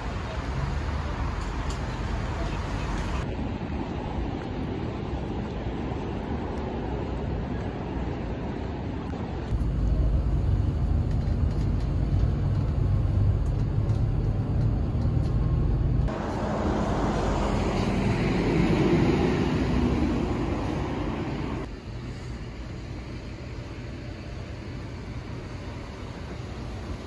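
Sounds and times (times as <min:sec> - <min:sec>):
bus engine and road rumble: 0:00.0 - 0:27.0
street traffic noise: 0:00.0 - 0:27.0.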